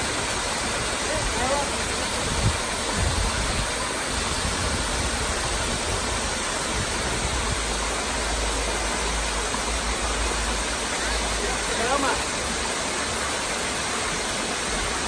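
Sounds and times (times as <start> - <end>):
waterfall rushing and splashing: 0.0 - 15.0.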